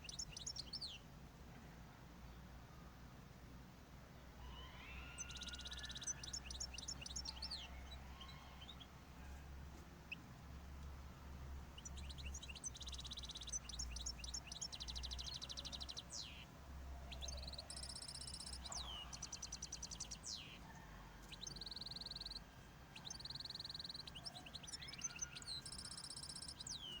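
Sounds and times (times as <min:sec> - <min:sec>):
cage birds chirping and singing: 0:00.0 - 0:01.0, 0:04.5 - 0:27.0.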